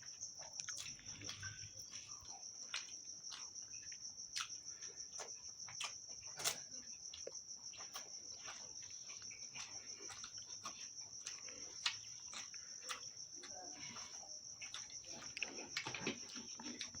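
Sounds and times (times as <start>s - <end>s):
crickets chirring: 0.0s - 17.0s
wet chewing: 0.0s - 17.0s.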